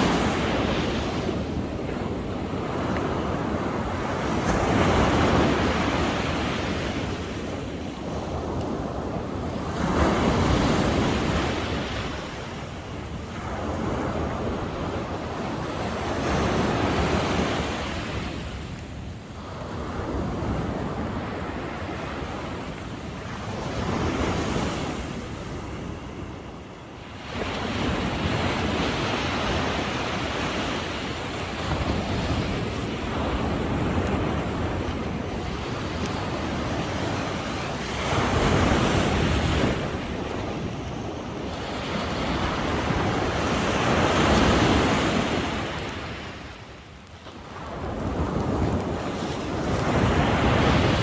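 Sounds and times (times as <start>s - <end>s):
sea waves breaking on shore: 0.0s - 51.0s.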